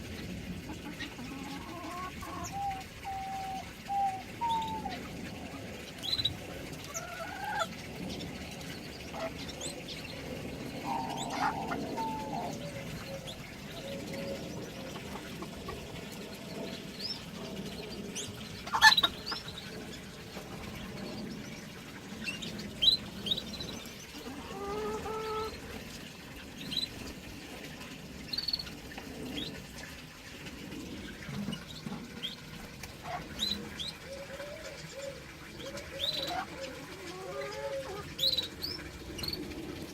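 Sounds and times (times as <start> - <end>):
cage birds chirping and calling: 0.1 - 39.9.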